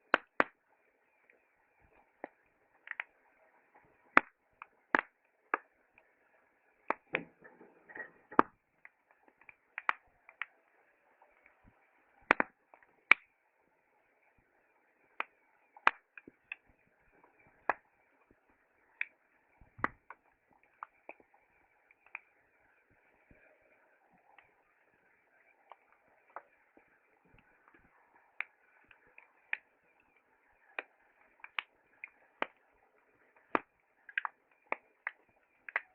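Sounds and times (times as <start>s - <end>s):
campfire crackling: 0.0s - 35.9s
faint steady hiss: 0.0s - 35.9s.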